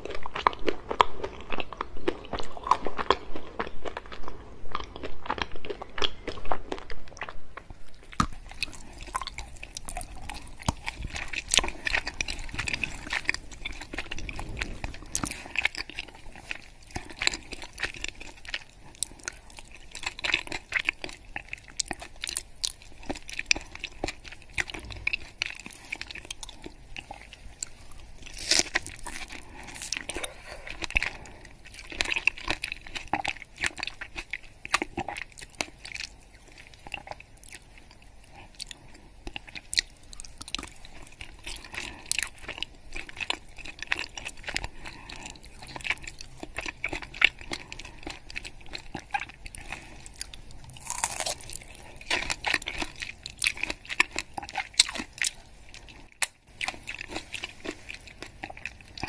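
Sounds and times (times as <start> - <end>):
crunching hard chocolate: 0.0 - 37.7, 38.3 - 59.0
soft sticky chewing: 0.0 - 59.0.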